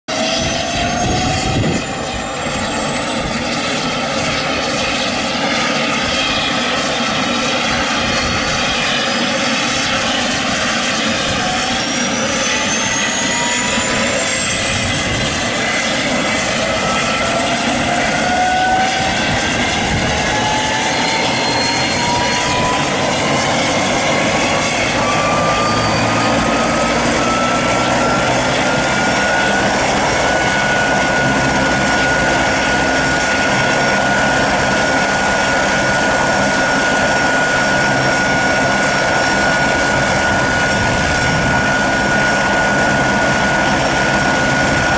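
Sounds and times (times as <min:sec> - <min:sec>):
helicopter turbine whine rising: 0:00.1 - 0:44.9
steady rushing noise: 0:00.3 - 0:44.9.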